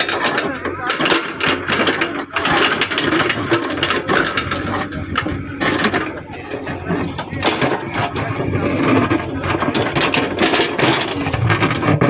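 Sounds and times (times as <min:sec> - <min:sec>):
diesel engine running: 0:00.0 - 0:12.0
metallic clattering and rattling: 0:00.0 - 0:12.0.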